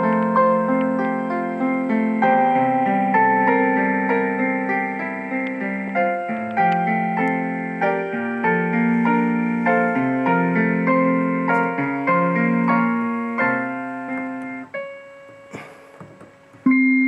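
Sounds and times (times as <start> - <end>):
electronic piano melody: 0.0 - 17.0.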